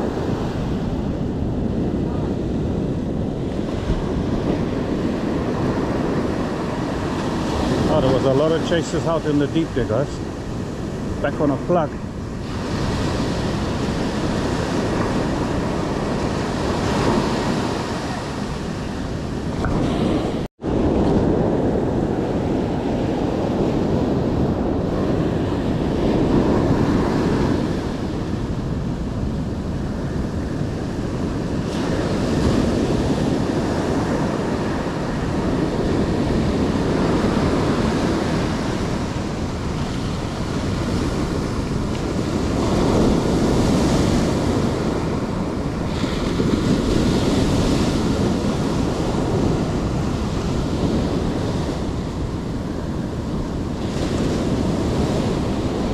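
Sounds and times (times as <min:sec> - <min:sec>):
surf breaking on beach: 0:00.0 - 0:55.9
wind buffeting microphone: 0:00.0 - 0:55.9.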